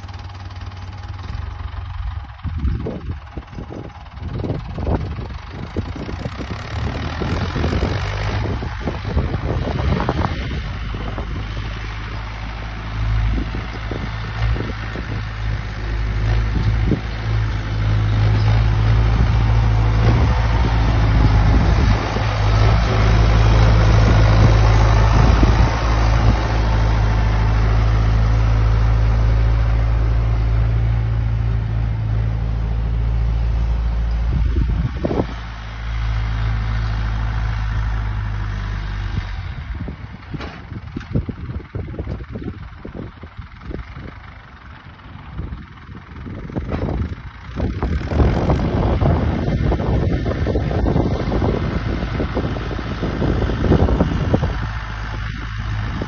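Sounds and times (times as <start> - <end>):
tractor diesel engine driving past: 0.0 - 56.0.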